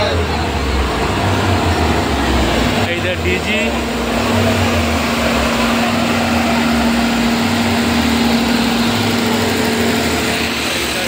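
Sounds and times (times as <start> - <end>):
diesel generator running: 0.0 - 11.0.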